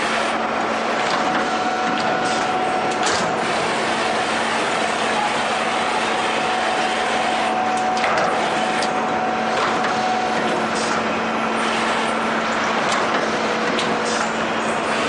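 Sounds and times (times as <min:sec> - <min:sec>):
roll-forming machine running: 0:00.0 - 0:15.0.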